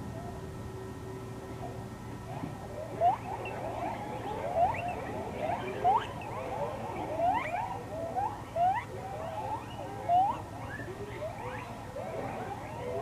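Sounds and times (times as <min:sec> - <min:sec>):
monkeys coo calling: 0:01.6 - 0:13.0.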